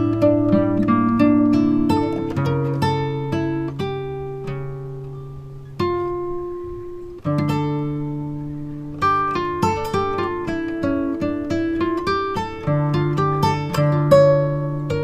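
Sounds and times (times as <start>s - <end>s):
slow acoustic guitar: 0.0s - 15.0s.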